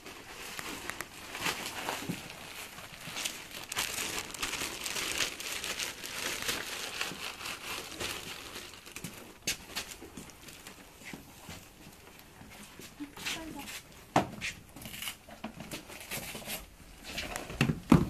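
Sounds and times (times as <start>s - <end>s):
crinkling and rustling: 0.0s - 18.0s.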